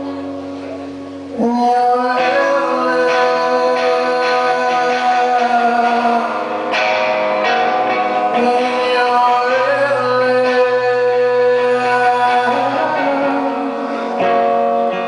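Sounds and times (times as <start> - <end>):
electric guitar: 0.0 - 15.0
rock band playing: 0.0 - 15.0
man singing: 1.3 - 15.0.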